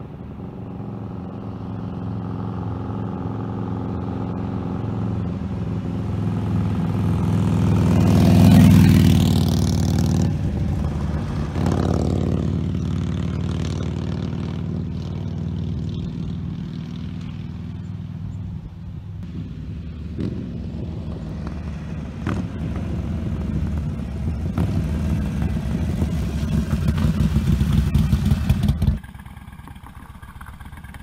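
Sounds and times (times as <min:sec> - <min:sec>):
motorcycle passing: 0:00.0 - 0:31.0.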